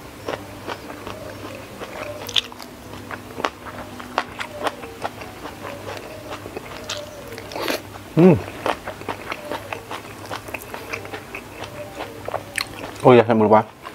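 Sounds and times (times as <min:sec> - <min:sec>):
close chewing mouth sounds: 0:00.0 - 0:13.9.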